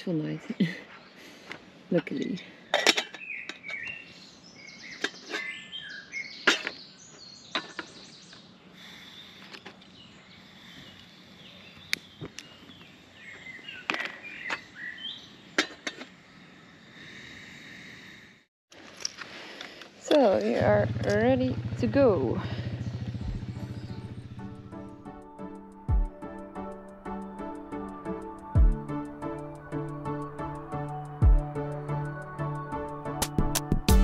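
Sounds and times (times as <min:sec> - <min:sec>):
birds chirping: 0:00.0 - 0:18.4, 0:20.2 - 0:33.2.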